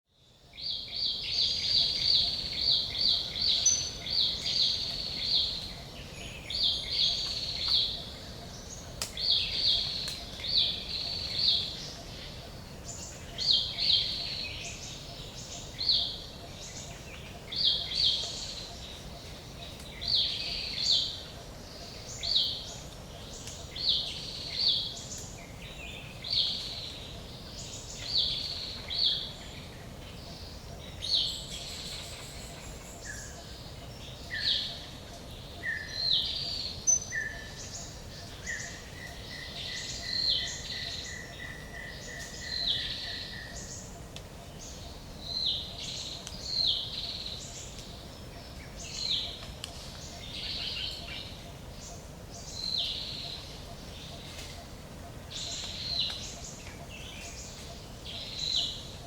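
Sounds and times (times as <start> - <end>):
bird chirping: 0.2 - 59.0.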